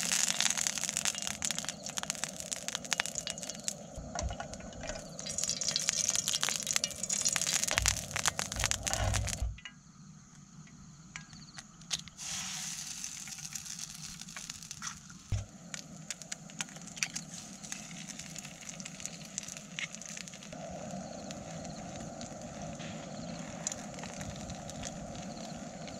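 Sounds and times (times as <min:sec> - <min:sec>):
eggs frying in oil: 0:00.0 - 0:09.5, 0:11.3 - 0:25.9.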